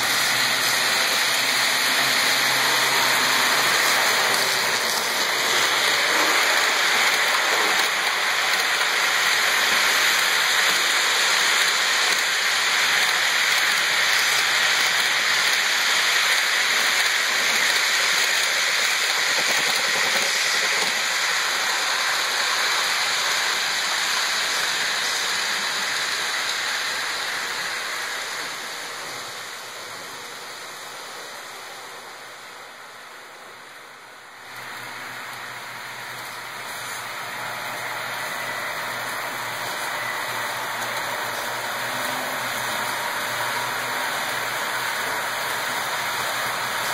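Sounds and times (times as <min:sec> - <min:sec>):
model train wheels rushing on rails: 0:00.0 - 0:46.9.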